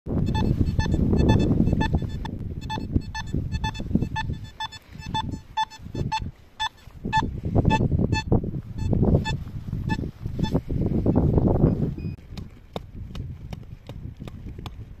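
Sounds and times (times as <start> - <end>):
metal detector beeps: 0.1 - 12.2.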